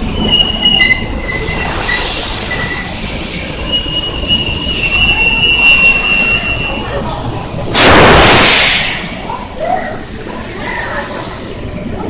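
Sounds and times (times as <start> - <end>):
train wheels squealing on rails: 0.0 - 7.7, 8.6 - 12.0.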